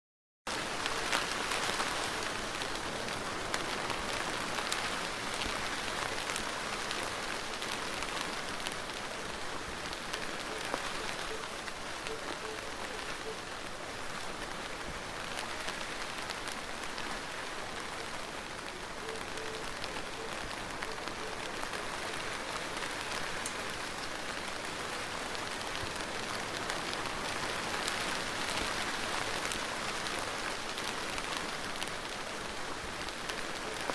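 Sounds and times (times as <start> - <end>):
heavy rain falling: 0.5 - 33.9.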